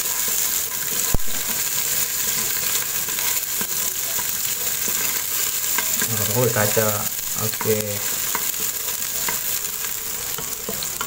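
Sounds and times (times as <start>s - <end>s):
onions sizzling in hot oil: 0.0s - 11.0s
wooden spatula stirring: 0.1s - 11.0s.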